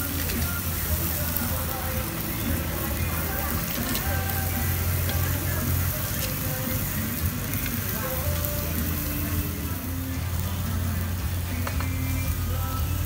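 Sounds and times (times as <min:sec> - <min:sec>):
meat sizzling on a grill pan: 0:00.0 - 0:13.0.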